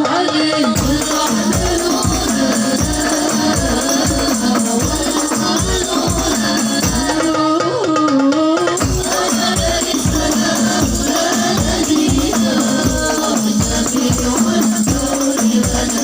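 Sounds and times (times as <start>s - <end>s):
devotional singing: 0.0s - 16.0s
jingling frame drum: 0.6s - 7.7s, 8.6s - 16.0s
low drum beat: 0.8s - 7.3s, 8.8s - 16.0s.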